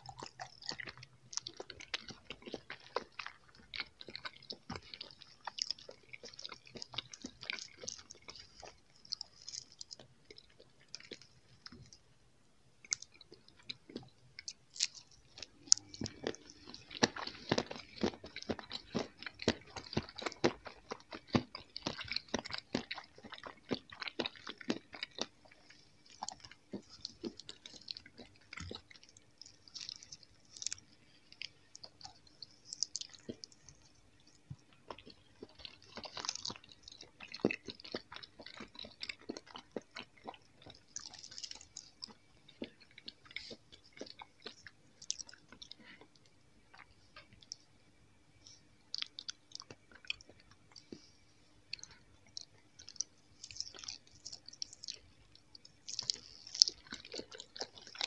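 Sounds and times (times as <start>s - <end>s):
chewing soft jelly candy: 0.0s - 58.0s.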